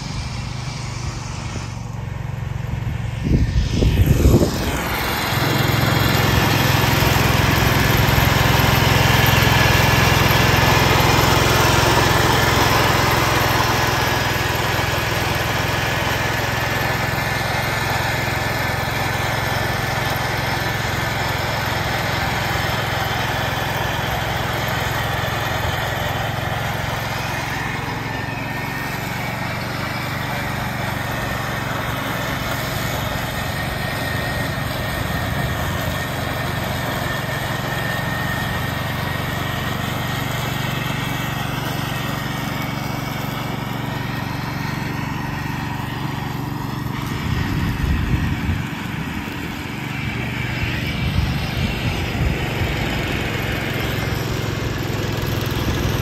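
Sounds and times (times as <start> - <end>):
mower blades mulching dry leaves: 0.0 - 56.0
tractor engine running under load: 0.0 - 56.0.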